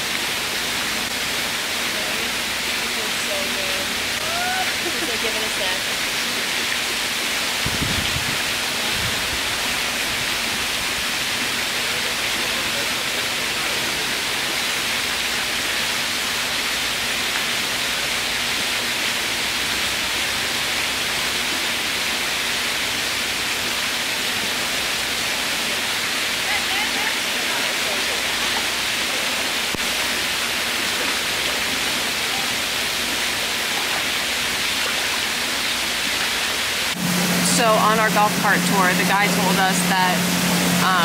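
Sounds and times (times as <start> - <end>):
waterfall rushing into pool: 0.0 - 41.0.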